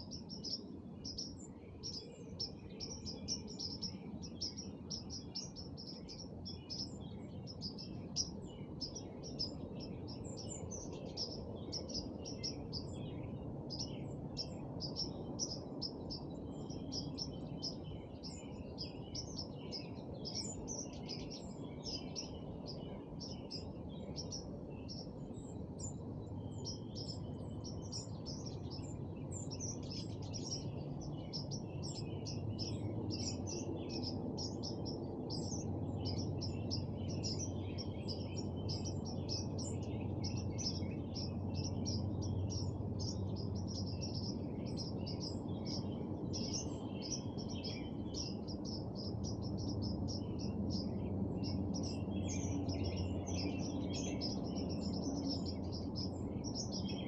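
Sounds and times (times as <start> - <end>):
low background rumble: 0.0 - 57.0
small birds chirping: 0.0 - 57.0.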